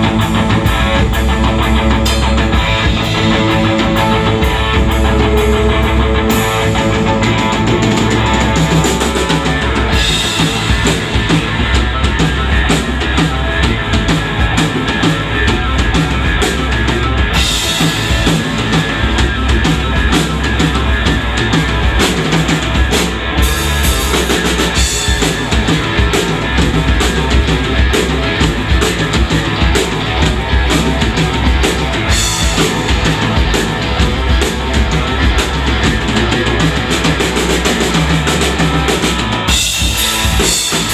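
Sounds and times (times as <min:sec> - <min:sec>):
drum kit beat: 0:00.0 - 0:40.9
electric guitar: 0:00.0 - 0:40.9
rock band playing: 0:00.0 - 0:40.9.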